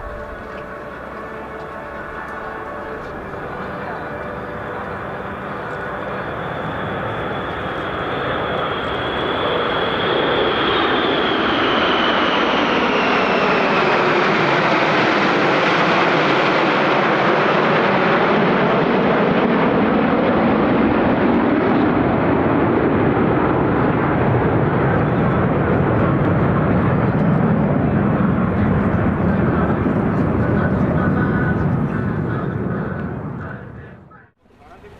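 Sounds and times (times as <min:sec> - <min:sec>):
fighter jets passing: 0:00.0 - 0:34.1.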